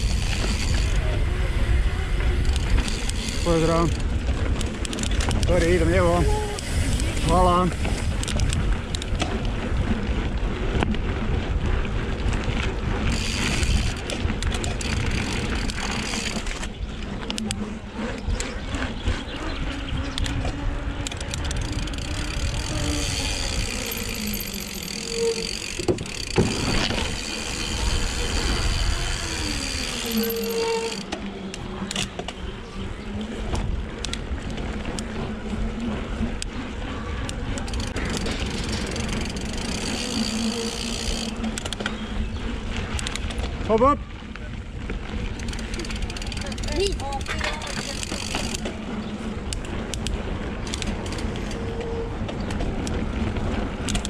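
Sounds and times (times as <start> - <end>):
bicycle frame rattling: 0.0 - 54.0
bike tyres rolling on dirt: 0.0 - 54.0
wind rushing over microphone: 0.0 - 54.0.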